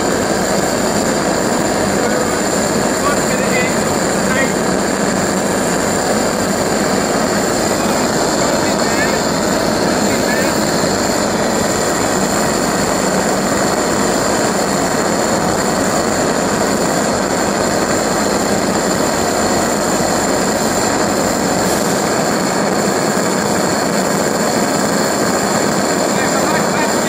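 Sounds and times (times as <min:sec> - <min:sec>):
combustor rushing drone: 0:00.0 - 0:27.0.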